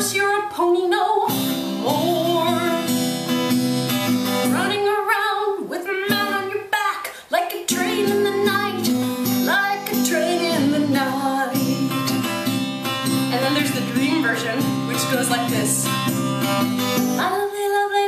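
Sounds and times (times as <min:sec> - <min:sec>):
acoustic guitar strumming: 0:00.0 - 0:17.8
woman singing folk song: 0:00.0 - 0:18.0.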